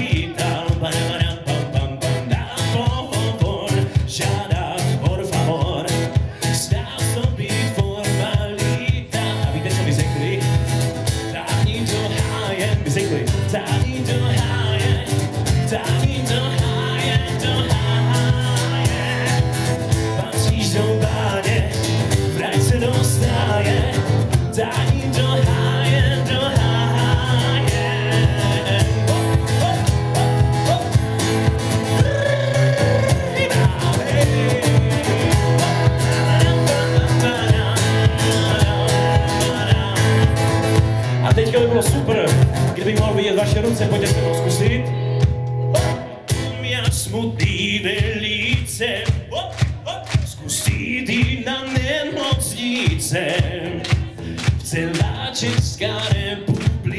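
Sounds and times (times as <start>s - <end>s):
acoustic guitar strumming: 0.0s - 56.9s
man singing: 0.0s - 56.9s.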